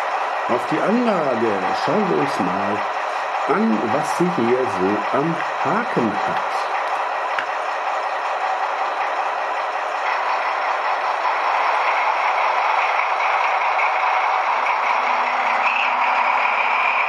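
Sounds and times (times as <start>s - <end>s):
model locomotive diesel engine sound: 0.0s - 17.0s
steady high whine: 0.0s - 17.0s.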